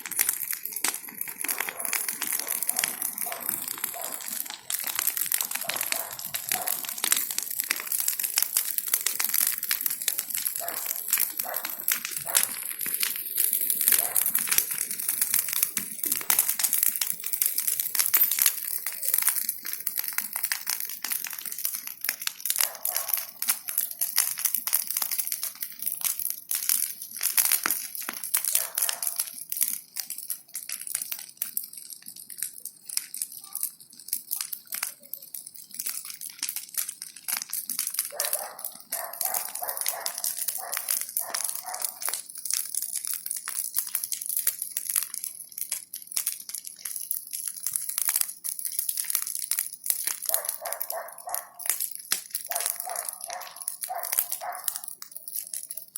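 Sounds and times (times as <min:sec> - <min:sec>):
bonfire crackling and snapping: 0:00.0 - 0:55.9.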